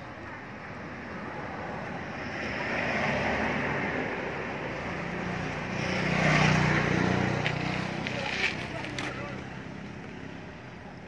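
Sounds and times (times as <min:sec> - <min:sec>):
vehicle engine hum passing: 0:00.0 - 0:11.0.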